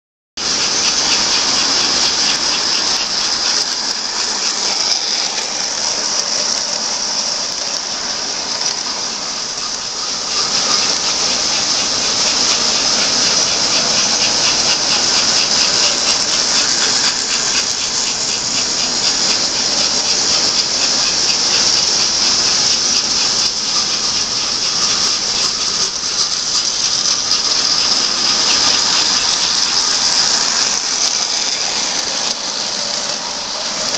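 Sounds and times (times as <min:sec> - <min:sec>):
fast fine clicking: 0:00.4 - 0:09.0, 0:09.6 - 0:33.9
toy train motors whirring: 0:00.4 - 0:33.9.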